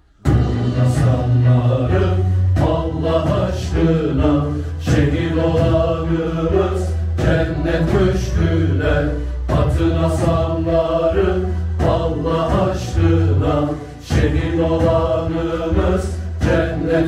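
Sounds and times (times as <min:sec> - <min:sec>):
men singing in unison: 0:00.3 - 0:17.0.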